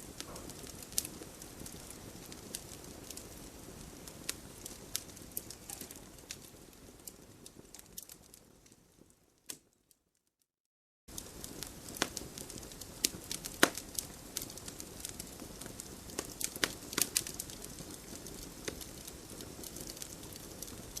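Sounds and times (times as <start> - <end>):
soft steady hiss: 0.0 - 9.7, 11.1 - 21.0
campfire crackling and popping: 0.0 - 10.0, 11.1 - 21.0.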